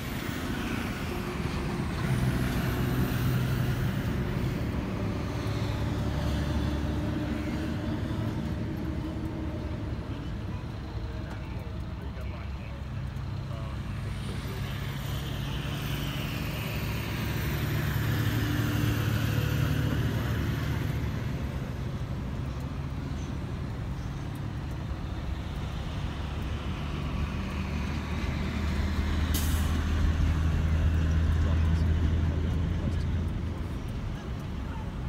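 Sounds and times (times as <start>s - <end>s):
traffic noise: 0.0s - 35.0s.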